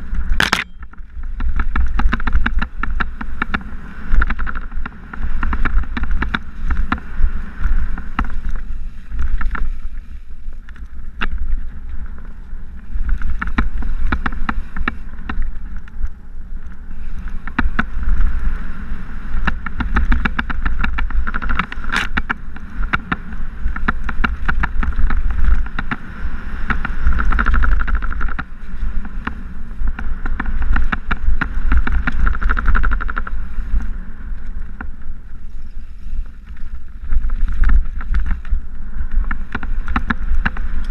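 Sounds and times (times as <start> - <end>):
bike knocking over bumps: 0.0 - 9.7, 13.2 - 16.1, 17.3 - 18.4, 19.3 - 33.9, 36.5 - 40.9
bike rattling: 0.0 - 40.9
wind rumble on microphone: 0.0 - 40.9.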